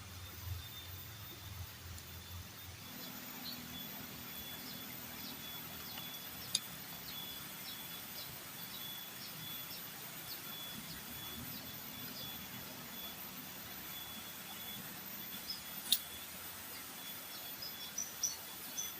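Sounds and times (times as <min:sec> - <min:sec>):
high thin insect tone: 0:00.0 - 0:18.9.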